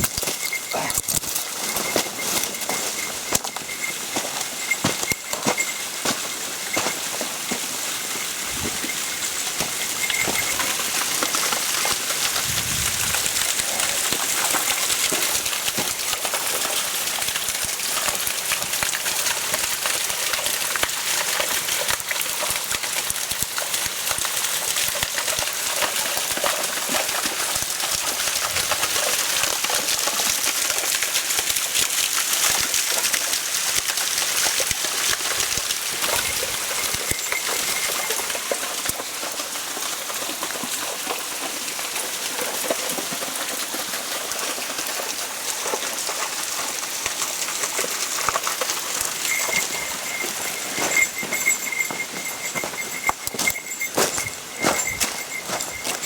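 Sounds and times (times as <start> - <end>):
waterfall rushing on rock: 0.0 - 56.0.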